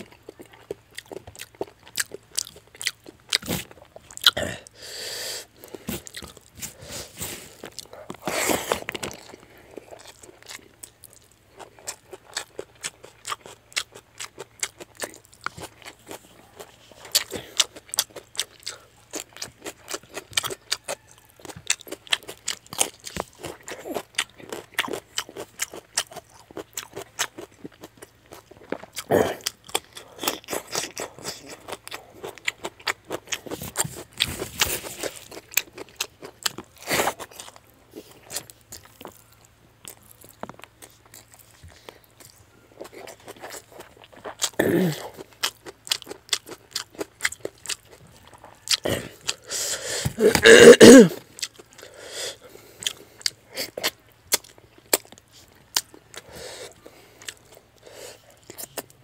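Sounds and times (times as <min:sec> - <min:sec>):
wet chewing with clicks: 0:00.0 - 0:04.4, 0:05.6 - 0:06.6, 0:07.5 - 0:50.2, 0:51.2 - 0:59.0.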